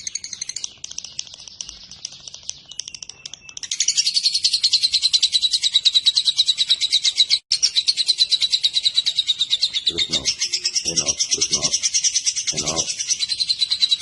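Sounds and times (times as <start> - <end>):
lovebird chattering: 0.0 - 14.0.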